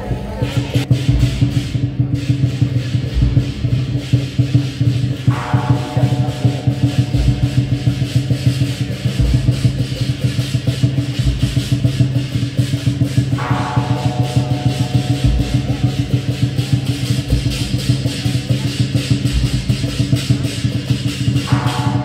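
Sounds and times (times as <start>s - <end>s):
percussion music: 0.0s - 22.0s.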